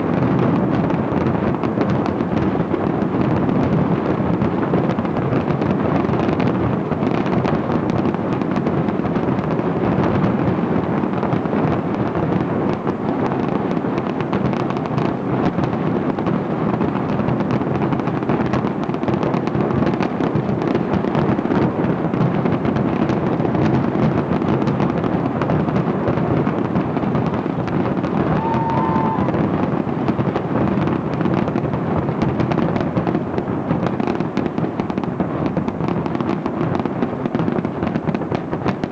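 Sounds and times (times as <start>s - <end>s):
fireworks booming and crackling: 0.0s - 38.9s.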